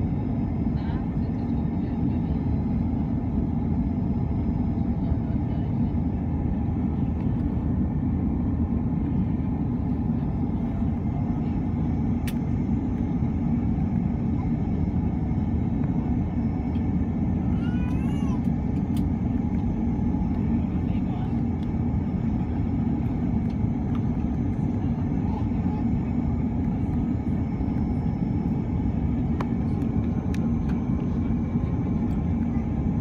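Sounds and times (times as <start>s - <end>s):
airliner cabin engine drone: 0.0s - 33.0s.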